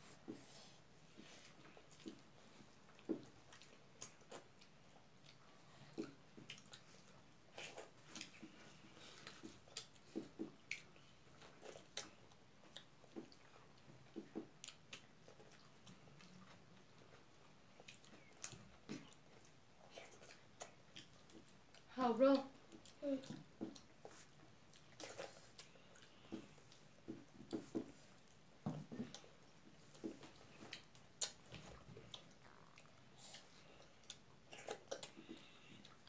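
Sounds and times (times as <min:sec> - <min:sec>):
people chewing and smacking: 0:00.0 - 0:36.0.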